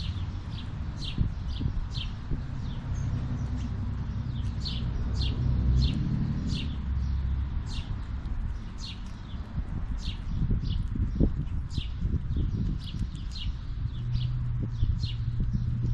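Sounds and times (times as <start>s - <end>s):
bird chirping: 0.0s - 15.9s
steady low rumble: 0.0s - 15.9s.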